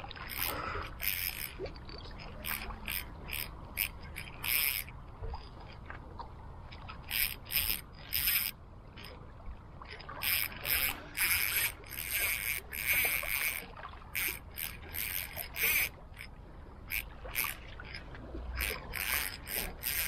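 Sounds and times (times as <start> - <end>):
fishing reel whirring: 0.0 - 5.8, 7.0 - 9.2, 9.8 - 20.0.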